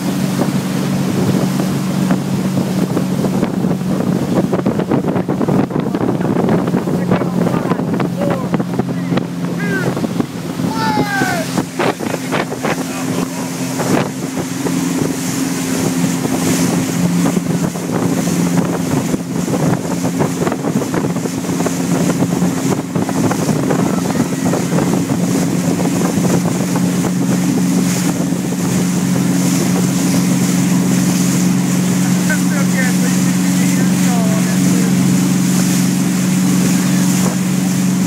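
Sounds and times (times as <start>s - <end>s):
motorboat engine running: 0.0s - 38.0s
water rushing past hull: 0.0s - 38.0s
wind buffeting microphone: 0.0s - 38.0s.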